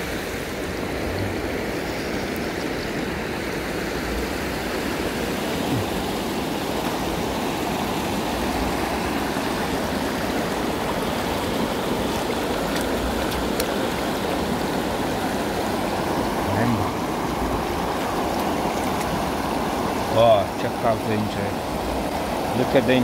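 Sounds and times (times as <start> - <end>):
river rushing over stones: 0.0 - 23.0.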